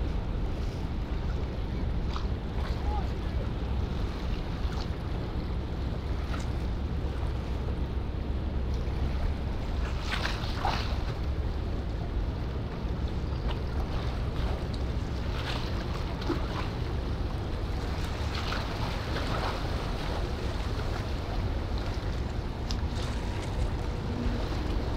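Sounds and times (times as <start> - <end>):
ship rumbling past: 0.0 - 24.9
water wash: 2.0 - 24.9.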